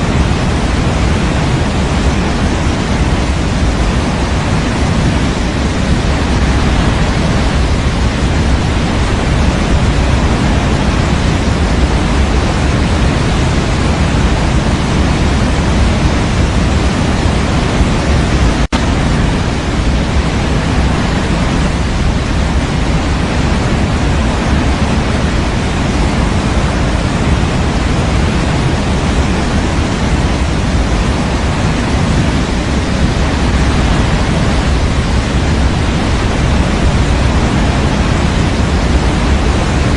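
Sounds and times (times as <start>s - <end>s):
white noise hiss with rumble: 0.0s - 39.9s.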